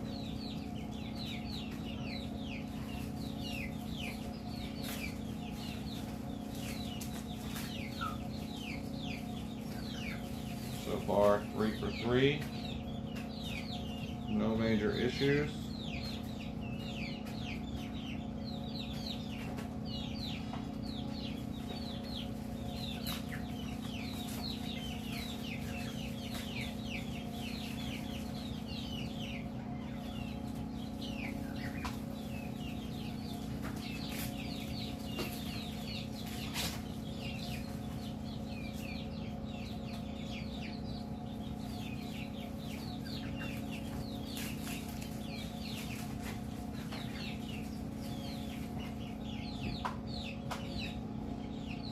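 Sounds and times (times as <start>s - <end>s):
chickens peeping: 0.0s - 51.9s
steady low hum: 0.0s - 51.9s.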